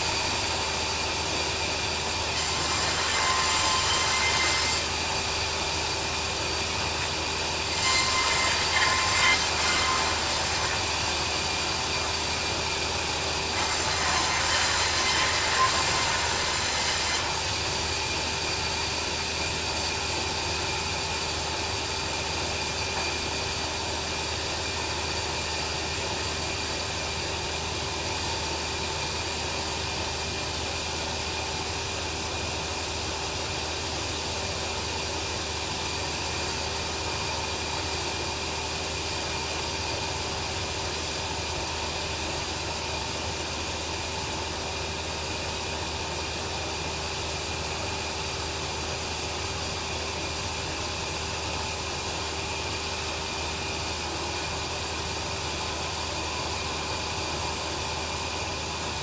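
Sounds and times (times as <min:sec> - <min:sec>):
bandsaw sawmill humming: 0:00.0 - 0:59.0.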